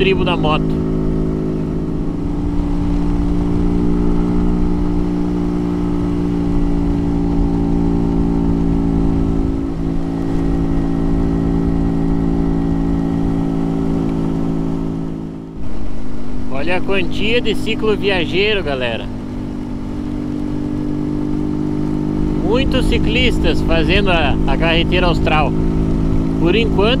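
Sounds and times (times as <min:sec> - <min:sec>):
low rushing noise: 0:00.0 - 0:27.0
small motorcycle engine running: 0:00.0 - 0:27.0.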